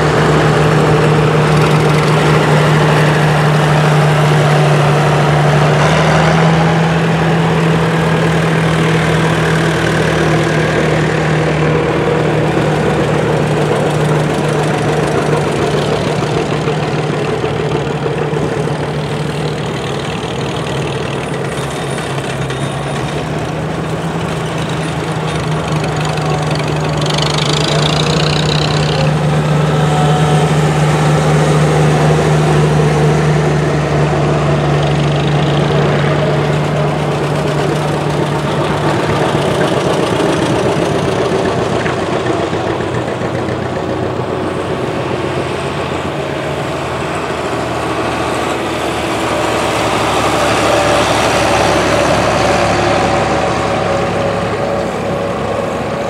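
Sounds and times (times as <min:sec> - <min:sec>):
tractor engines driving past: 0:00.0 - 0:56.0.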